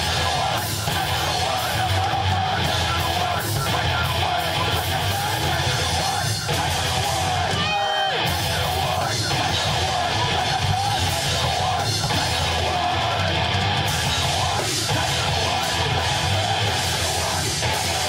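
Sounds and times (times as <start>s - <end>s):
heavy rock band playing: 0.0s - 18.0s
yelled vocals: 0.0s - 18.0s.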